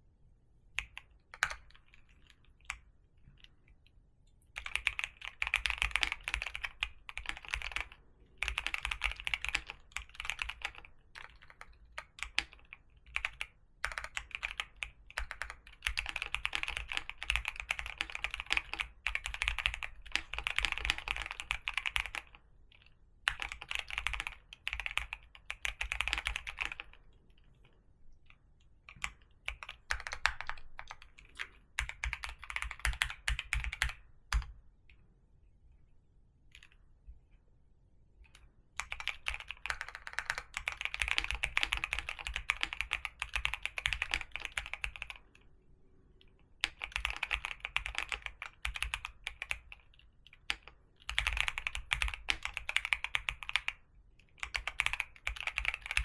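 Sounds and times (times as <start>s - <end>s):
typing on computer keyboard: 0.8s - 3.6s, 4.6s - 27.0s, 28.8s - 34.6s, 38.3s - 45.4s, 46.6s - 56.0s.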